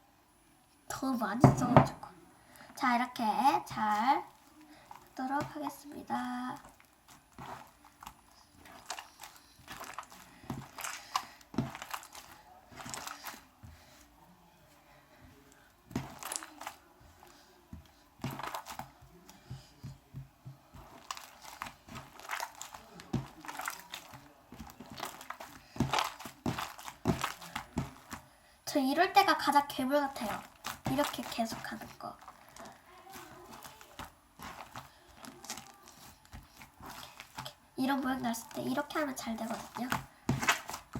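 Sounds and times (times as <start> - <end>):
slime crackling and popping: 3.2 - 13.8, 15.6 - 19.6, 20.7 - 28.3, 30.1 - 40.9.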